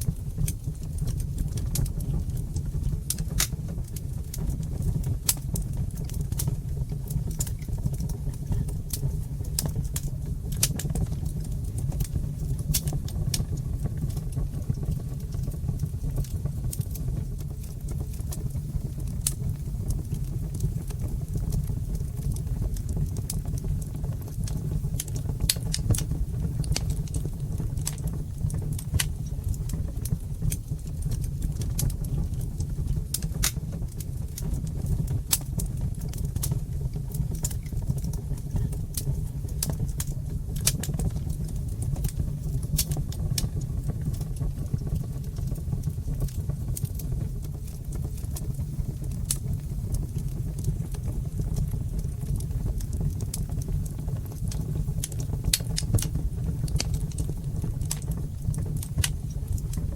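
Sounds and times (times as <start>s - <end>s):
fire crackling and popping: 0.0s - 59.9s
low rush of flames: 0.0s - 59.9s.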